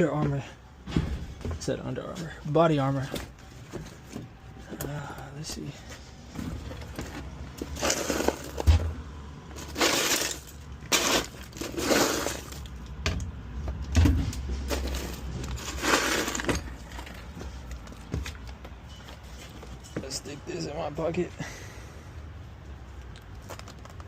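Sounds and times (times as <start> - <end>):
items rustling and clattering: 0.0 - 20.8, 23.0 - 24.0.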